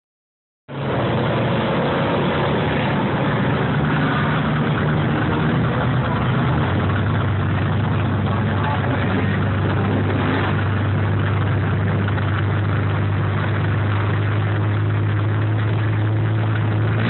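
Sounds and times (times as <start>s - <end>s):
race vehicle engine running: 0.7s - 17.0s.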